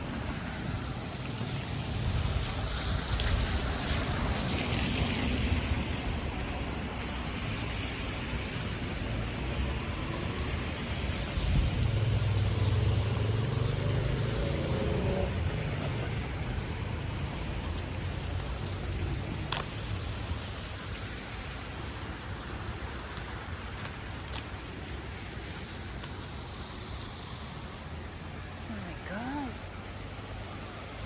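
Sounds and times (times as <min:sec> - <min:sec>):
wind buffeting microphone: 0:00.0 - 0:28.4.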